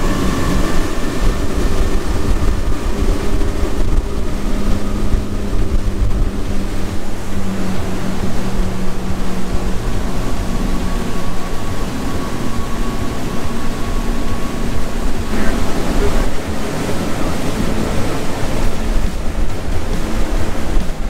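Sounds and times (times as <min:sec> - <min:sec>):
outboard engines droning: 0:00.0 - 0:21.0
rushing water: 0:00.0 - 0:21.0
wind: 0:00.0 - 0:21.0.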